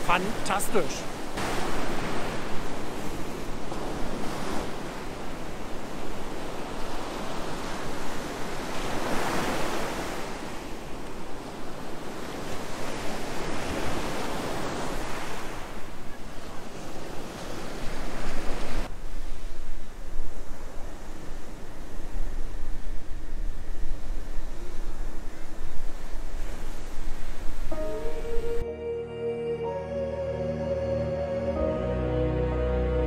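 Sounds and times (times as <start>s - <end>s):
sea waves breaking on a beach: 0.0s - 28.6s.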